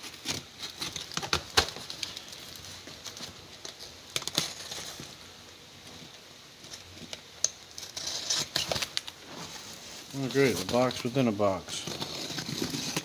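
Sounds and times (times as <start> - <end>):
cardboard packaging handled: 0.0 - 5.2, 6.7 - 13.0.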